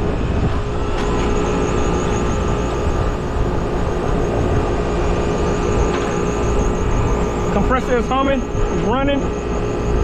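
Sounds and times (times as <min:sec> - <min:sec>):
compressor humming: 0:00.0 - 0:10.0.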